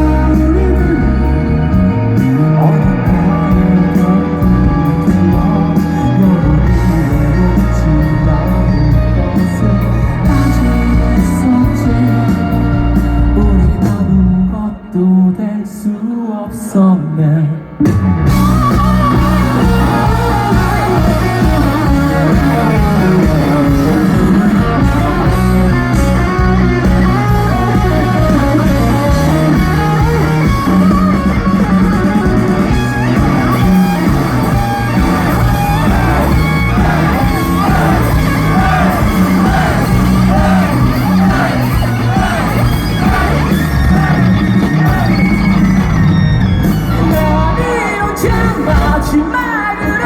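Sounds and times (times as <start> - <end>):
bass: 0.0 - 15.2, 16.8 - 50.0
drums: 0.0 - 15.4, 16.4 - 50.0
electric guitar: 0.0 - 15.6, 17.2 - 50.0
person singing: 0.0 - 26.9, 32.7 - 45.5, 46.9 - 50.0.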